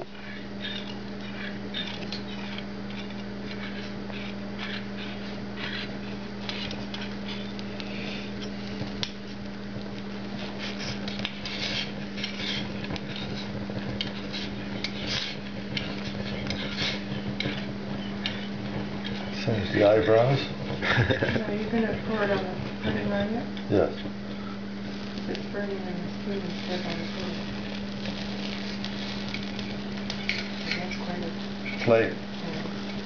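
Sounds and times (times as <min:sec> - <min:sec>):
burning brandy crackling: 0:00.0 - 0:33.0
steady low hum: 0:00.0 - 0:33.0.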